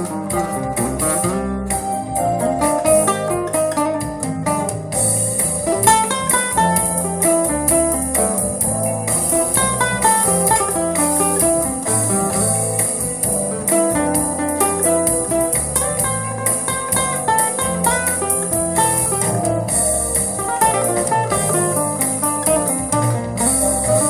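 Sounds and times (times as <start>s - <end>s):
acoustic guitar melody: 0.0s - 24.0s
backing track with beat: 0.0s - 24.0s.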